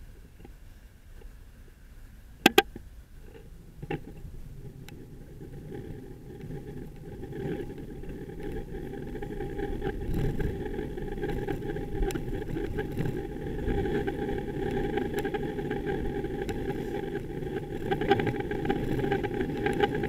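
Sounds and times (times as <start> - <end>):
bicycle riding rumble: 2.1 - 20.0.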